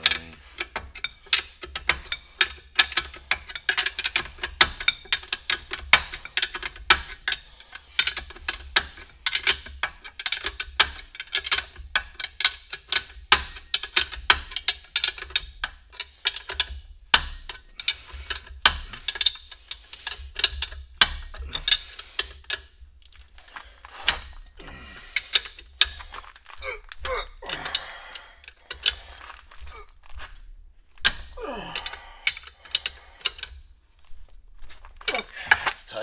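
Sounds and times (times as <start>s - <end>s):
wrench clicking on metal nuts: 0.0s - 22.7s, 23.3s - 30.3s, 30.9s - 33.6s.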